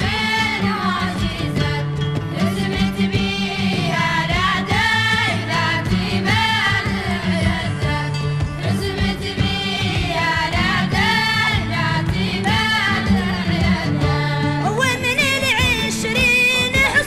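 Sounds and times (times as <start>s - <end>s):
voices singing: 0.0s - 17.0s.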